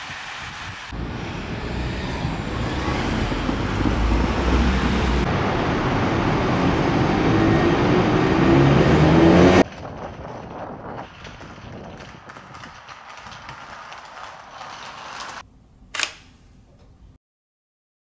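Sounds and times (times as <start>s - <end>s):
motor vehicle speeding up: 0.0s - 15.4s.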